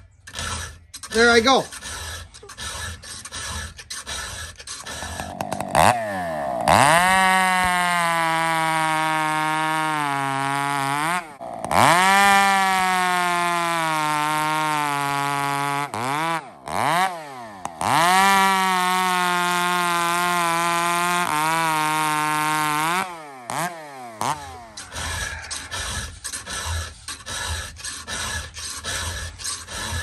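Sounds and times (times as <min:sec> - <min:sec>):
chainsaw cutting log: 0:00.0 - 0:30.0.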